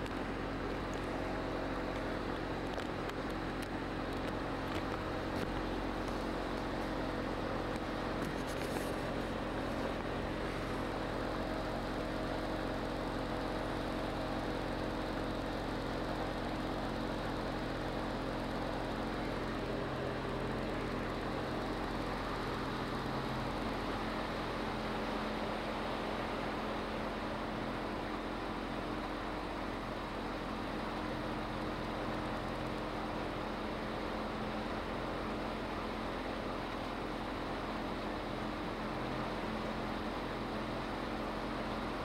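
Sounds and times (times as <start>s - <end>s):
motorboat engine drone: 0.0s - 42.0s.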